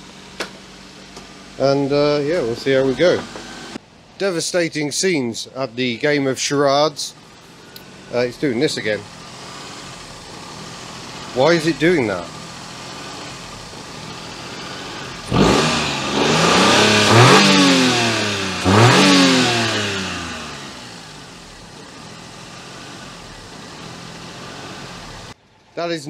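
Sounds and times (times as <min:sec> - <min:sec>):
car engine idling and revving: 0:00.0 - 0:03.9, 0:07.2 - 0:25.4.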